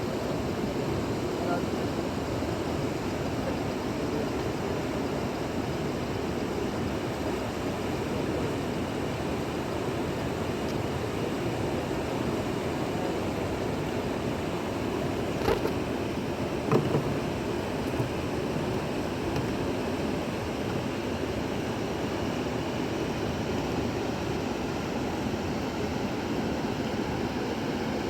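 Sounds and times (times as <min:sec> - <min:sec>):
fast-flowing river rushing: 0:00.1 - 0:28.0.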